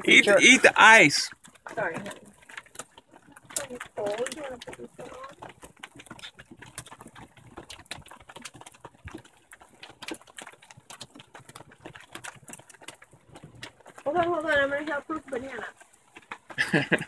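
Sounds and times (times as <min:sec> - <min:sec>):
hail pattering: 0:00.0 - 0:17.0.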